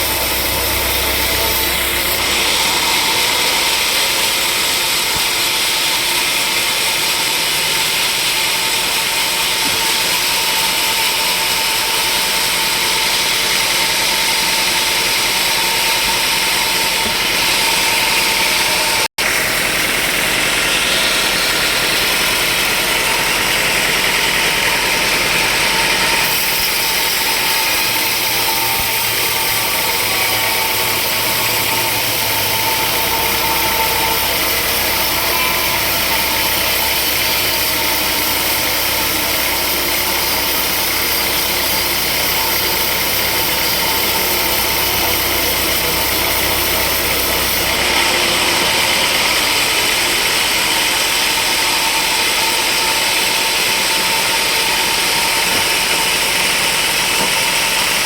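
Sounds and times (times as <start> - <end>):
sawmill machinery hiss and whine: 0.0 - 58.0.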